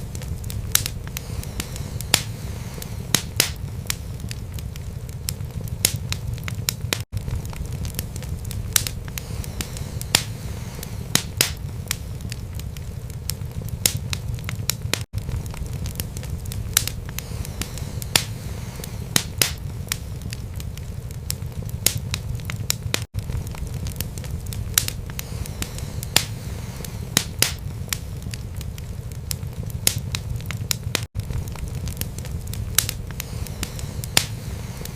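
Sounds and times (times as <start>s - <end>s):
low rumble of flames: 0.0s - 34.9s
wood crackling and popping: 0.0s - 34.9s.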